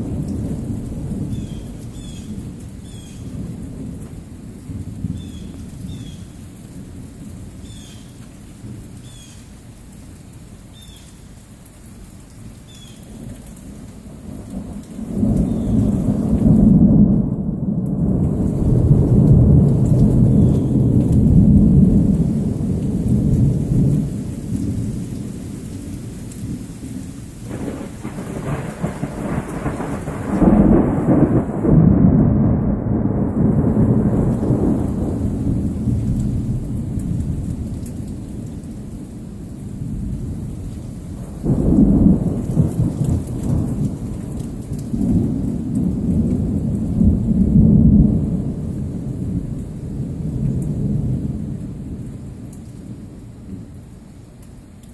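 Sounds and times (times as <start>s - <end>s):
thunder rumbling: 0.0s - 7.8s, 14.0s - 53.8s
steady rain: 0.0s - 54.9s.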